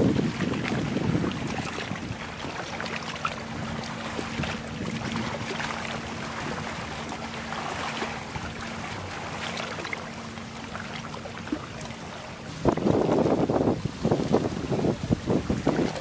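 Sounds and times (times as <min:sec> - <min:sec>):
distant boat engine drone: 0:00.0 - 0:16.0
water lapping and splashing: 0:00.0 - 0:16.0.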